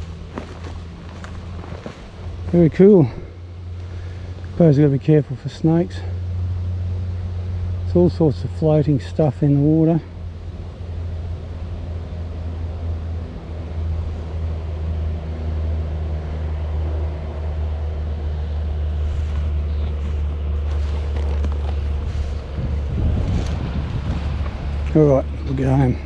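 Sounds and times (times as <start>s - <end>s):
motorcycle engine running at low revs: 0.0s - 5.4s, 6.1s - 26.0s.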